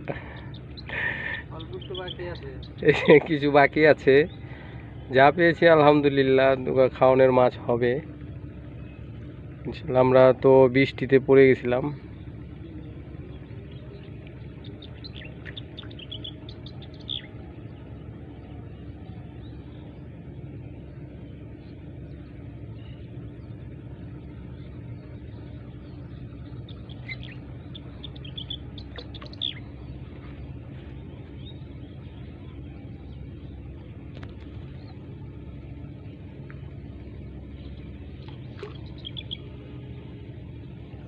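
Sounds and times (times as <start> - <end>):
birds chirping: 0.0 - 41.0
motor humming: 0.0 - 41.0.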